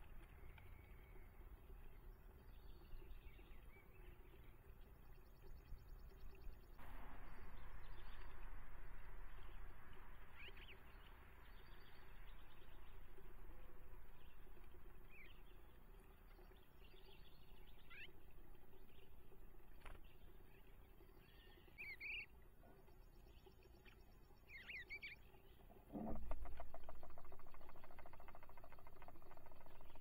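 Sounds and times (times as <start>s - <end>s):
faint hiss: 0.0s - 30.0s
songbird chirps: 0.0s - 30.0s.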